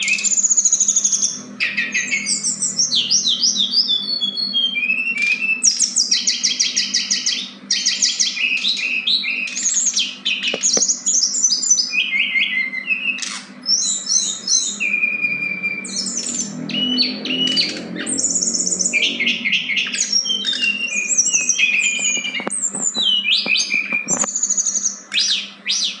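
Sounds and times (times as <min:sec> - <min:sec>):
songbirds chirping and trilling: 0:00.0 - 0:26.0
steady low hum: 0:00.0 - 0:26.0.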